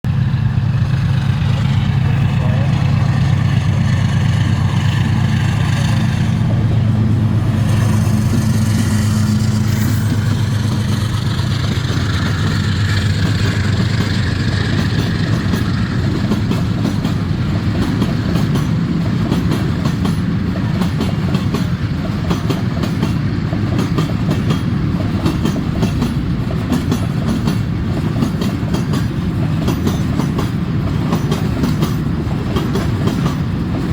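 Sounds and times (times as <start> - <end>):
train wheels rattling on rails: 0.1 - 33.9.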